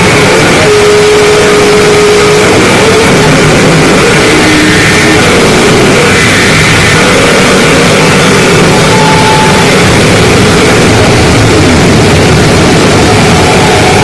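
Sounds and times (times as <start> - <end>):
distorted noise music: 0.0 - 14.0
held mid-range tone: 0.0 - 14.0.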